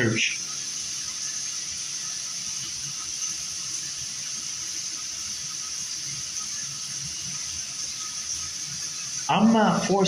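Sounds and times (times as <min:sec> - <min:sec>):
high-pitched hiss: 0:00.0 - 0:10.0.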